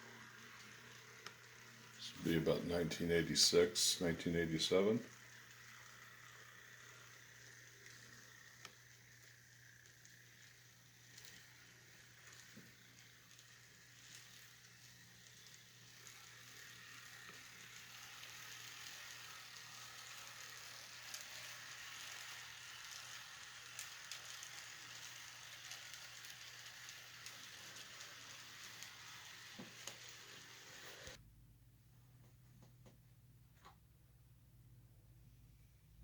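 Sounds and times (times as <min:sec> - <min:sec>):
model train motors whirring: 0:00.0 - 0:31.2.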